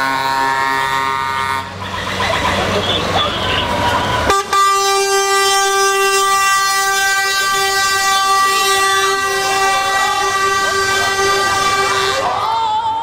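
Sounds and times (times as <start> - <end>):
truck air horn blast: 0.0 - 1.9, 3.0 - 12.6.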